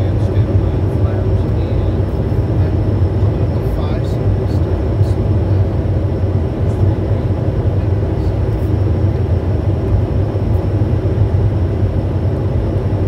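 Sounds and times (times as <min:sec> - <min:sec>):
jet cockpit engine rumble: 0:00.0 - 0:13.0.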